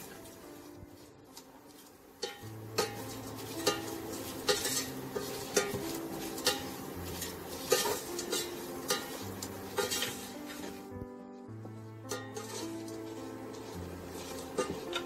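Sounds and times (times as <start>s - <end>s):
oil sizzling: 0.0s - 15.0s
metal spoon scraping a pan: 1.3s - 10.9s, 12.0s - 15.0s.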